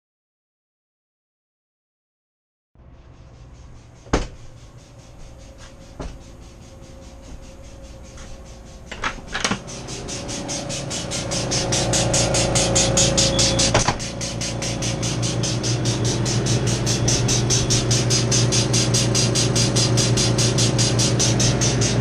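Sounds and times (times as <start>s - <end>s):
low hum: 2.8s - 22.0s
fast even ticking: 3.4s - 22.0s.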